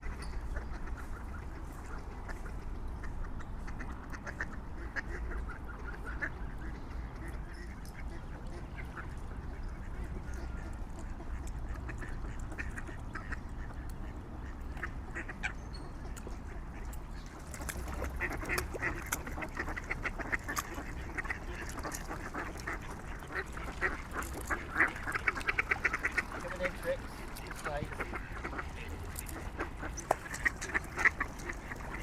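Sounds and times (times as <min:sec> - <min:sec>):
waterfowl quacking and honking: 0:00.0 - 0:32.0.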